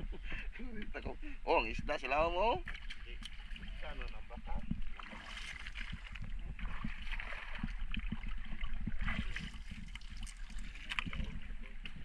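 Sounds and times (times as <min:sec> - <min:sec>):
seawater splashing and sloshing: 0:02.4 - 0:12.0.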